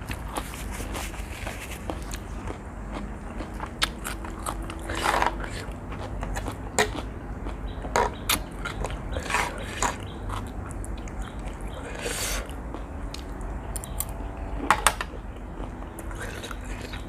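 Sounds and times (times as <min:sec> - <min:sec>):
person chewing and biting: 0:00.0 - 0:14.7, 0:15.4 - 0:17.0.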